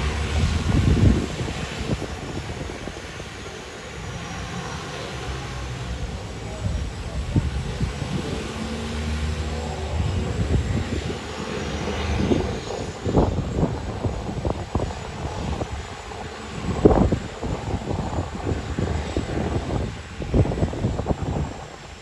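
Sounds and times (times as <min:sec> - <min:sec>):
propeller plane engines droning: 0:00.0 - 0:22.0.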